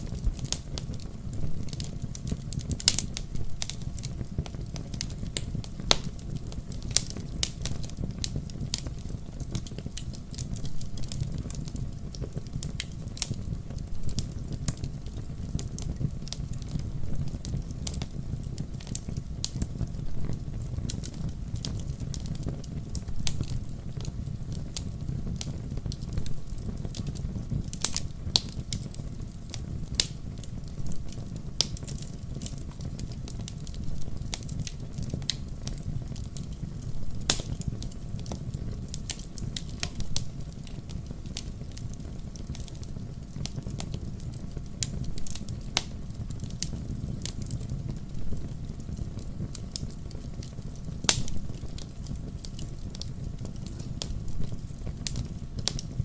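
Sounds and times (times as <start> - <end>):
fire rumbling: 0.0 - 56.0
wood fire crackling and popping: 0.0 - 56.0.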